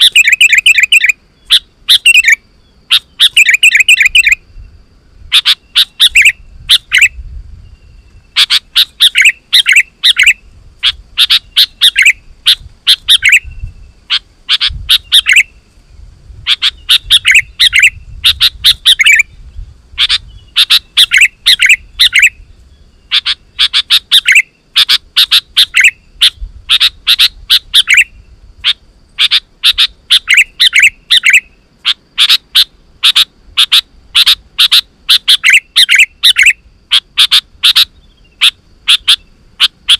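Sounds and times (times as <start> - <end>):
bird chattering song: 0.0 - 15.6, 16.4 - 39.9.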